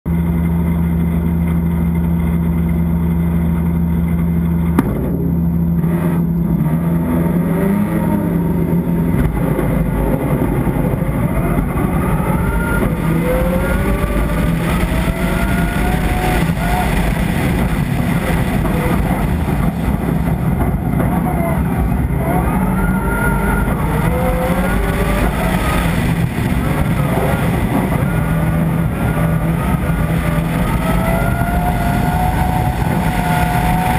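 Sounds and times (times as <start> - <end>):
rally car engine revving: 0.1 - 33.9
road and wind rumble: 0.1 - 33.9.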